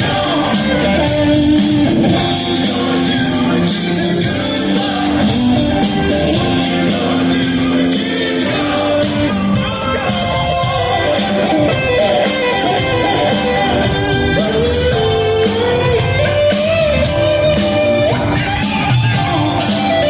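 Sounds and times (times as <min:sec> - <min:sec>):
live soft rock band: 0:00.0 - 0:20.0
person singing: 0:00.0 - 0:20.0.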